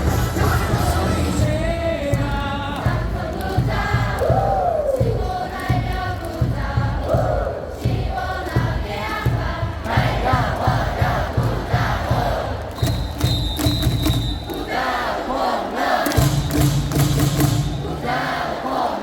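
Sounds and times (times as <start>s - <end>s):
crowd singing and chanting: 0.0s - 19.0s.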